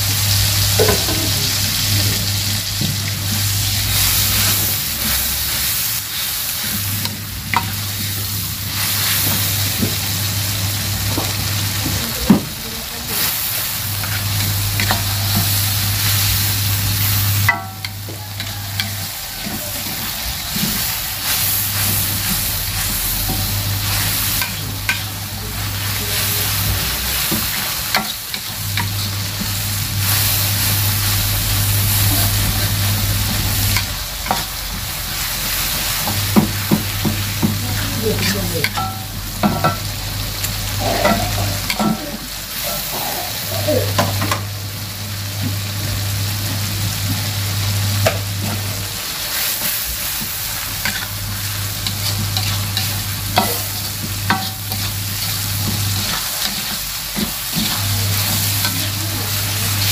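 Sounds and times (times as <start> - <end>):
sauce sizzling in a wok: 0.0 - 59.9.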